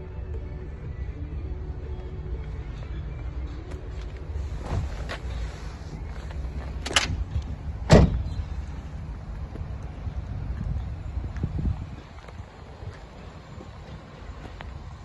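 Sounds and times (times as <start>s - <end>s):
low rumble around a car: 0.0s - 15.0s.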